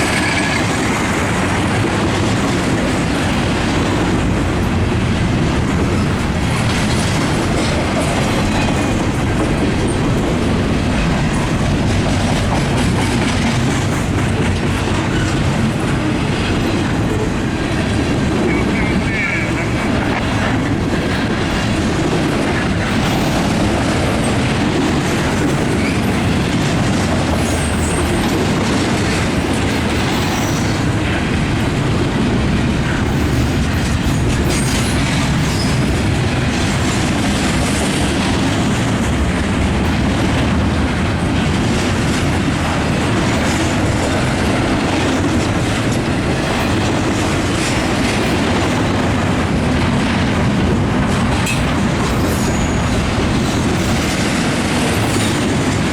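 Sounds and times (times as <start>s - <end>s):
wheels clattering over rail joints: 0.0s - 55.9s.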